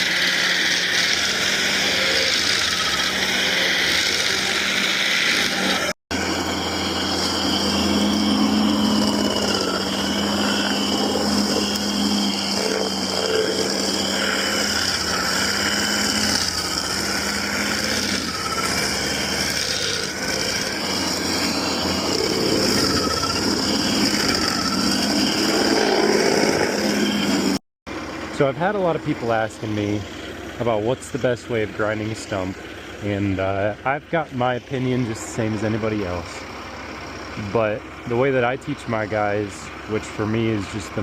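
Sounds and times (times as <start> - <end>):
cutting wheel grinding wood: 0.0 - 41.0
stump grinder engine running: 0.0 - 41.0.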